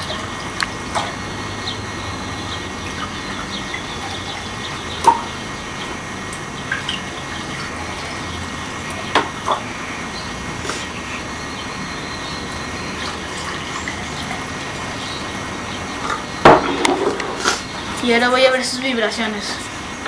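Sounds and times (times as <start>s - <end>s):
water pouring into glasses: 0.0s - 16.6s.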